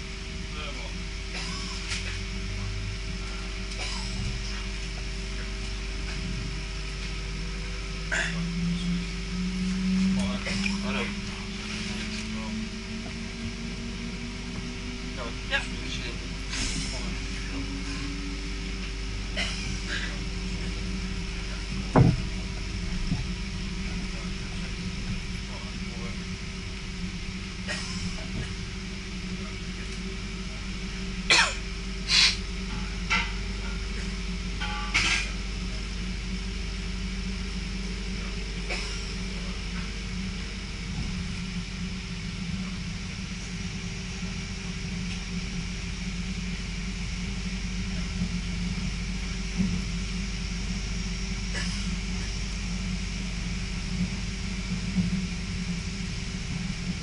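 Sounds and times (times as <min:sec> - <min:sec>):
electric train running hum: 0:00.0 - 0:57.0.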